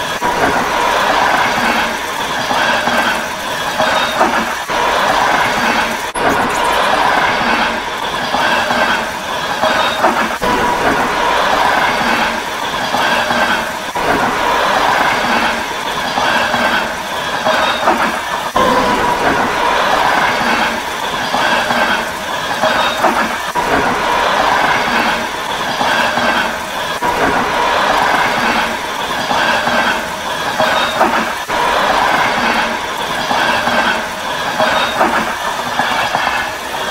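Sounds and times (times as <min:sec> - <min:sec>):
train wheels clacking over rail joints: 0:00.0 - 0:36.9.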